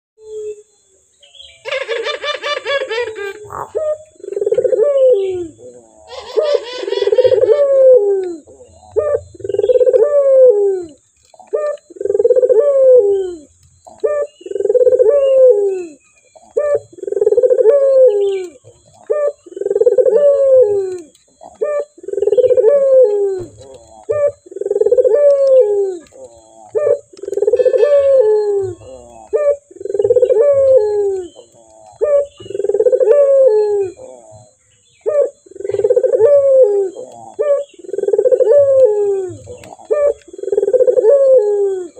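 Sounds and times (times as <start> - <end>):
dove cooing: 1.5 - 41.9.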